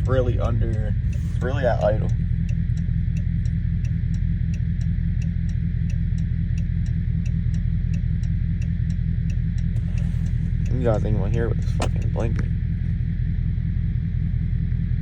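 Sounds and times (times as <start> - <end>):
turn signal clicking: 0.0 - 12.5
car engine idling: 0.0 - 15.0.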